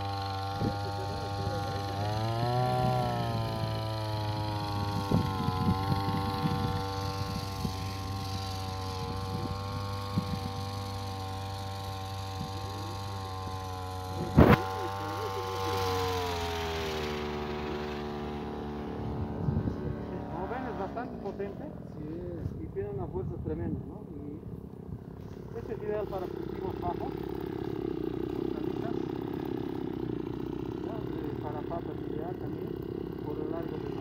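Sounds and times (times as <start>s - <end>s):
small two-stroke engine running: 0.0s - 34.0s.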